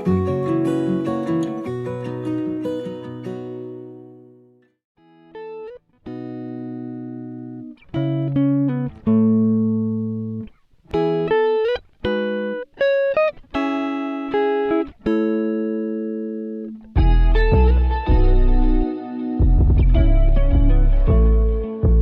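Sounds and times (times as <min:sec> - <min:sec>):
plucked guitar notes and chords: 0:00.0 - 0:22.0.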